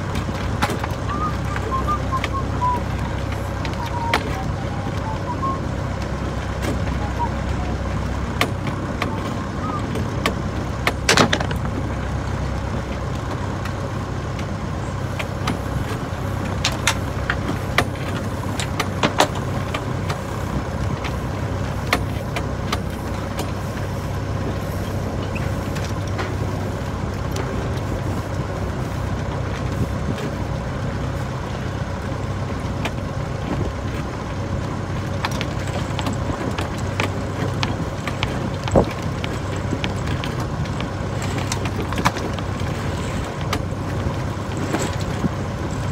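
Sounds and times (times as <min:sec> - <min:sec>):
clicks and knocks of boat gear: 0:00.0 - 0:04.5, 0:08.3 - 0:30.4, 0:32.0 - 0:45.9
boat engine humming: 0:00.0 - 0:45.9.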